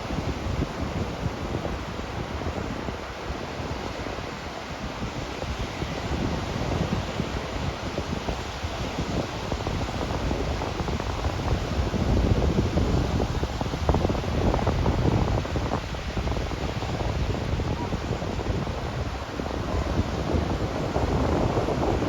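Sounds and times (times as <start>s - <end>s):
waves washing onto sand: 0.0s - 22.0s
wind buffeting microphone: 0.0s - 22.0s.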